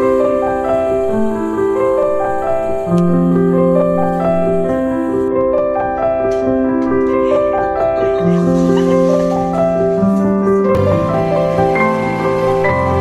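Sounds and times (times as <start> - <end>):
keyboard melody of held notes: 0.0 - 13.0.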